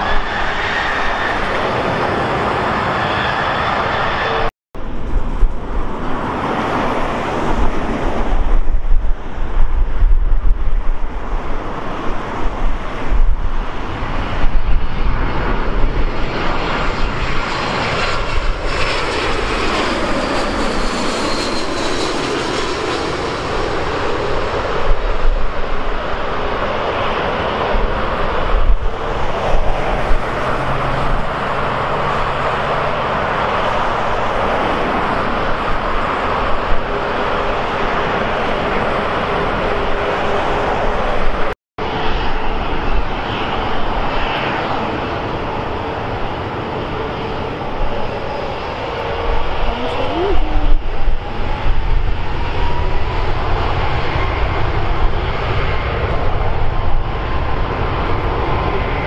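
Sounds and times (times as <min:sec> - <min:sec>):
aircraft whine passing overhead: 0:00.0 - 0:59.0
jet engine roar: 0:00.0 - 0:59.0.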